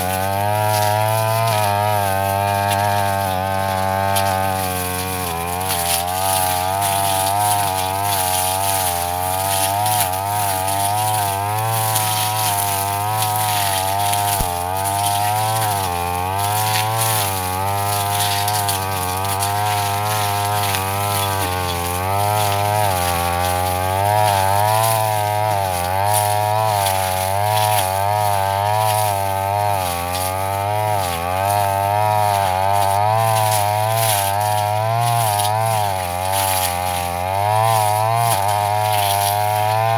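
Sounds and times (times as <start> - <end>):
brush cutter cutting grass: 0.0 - 39.9.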